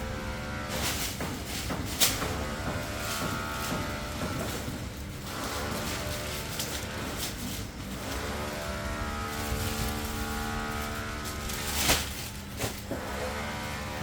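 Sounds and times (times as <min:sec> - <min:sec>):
bicycle hub buzzing: 0:02.4 - 0:14.0.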